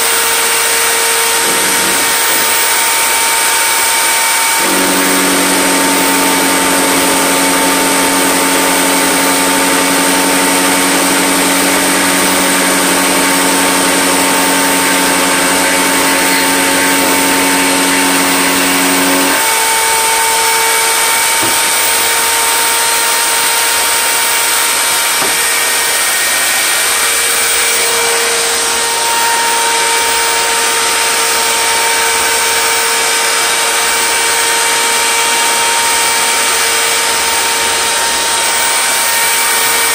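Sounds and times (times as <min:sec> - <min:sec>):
electric power tool running: 0:00.0 - 0:39.9.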